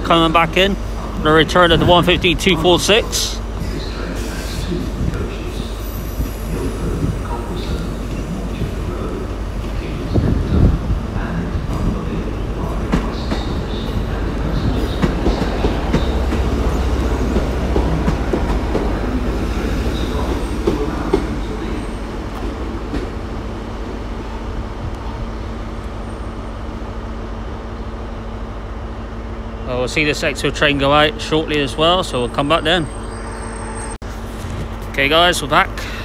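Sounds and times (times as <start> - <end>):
diesel train engines running: 0.0 - 36.0.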